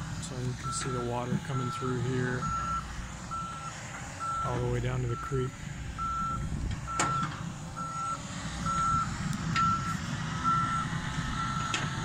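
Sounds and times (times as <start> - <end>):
diesel engines rumbling: 0.0 - 12.0
backup alarm beeping: 0.6 - 11.8.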